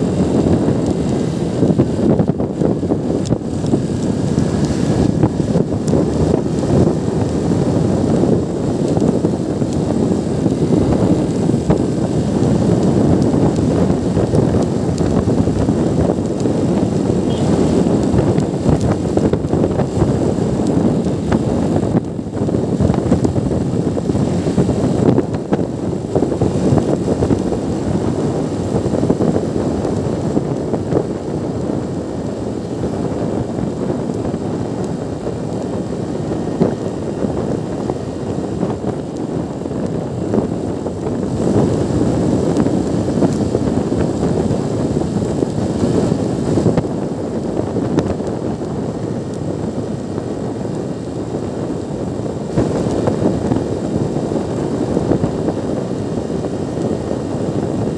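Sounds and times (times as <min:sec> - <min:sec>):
motorcycle cruising: 0:00.0 - 0:57.9
wind rumble on microphone: 0:00.0 - 0:57.9.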